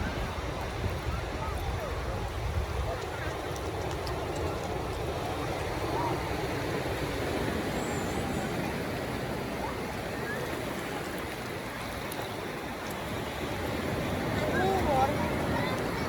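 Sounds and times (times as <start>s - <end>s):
ocean surf washing on beach: 0.0s - 16.0s.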